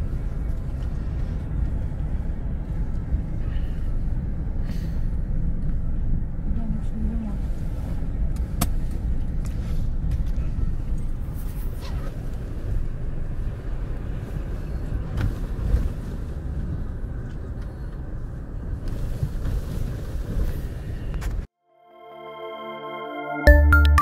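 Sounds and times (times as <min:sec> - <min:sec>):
engine low rumble: 0:00.0 - 0:21.5.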